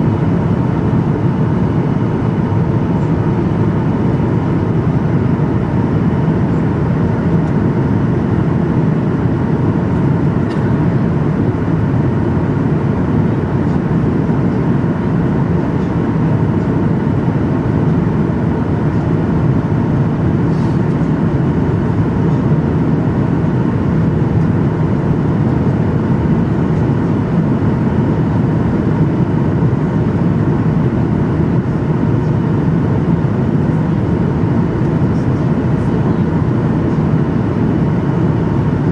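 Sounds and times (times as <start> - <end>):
faint steady hum: 0.0 - 38.9
plane cabin engine rush: 0.0 - 38.9.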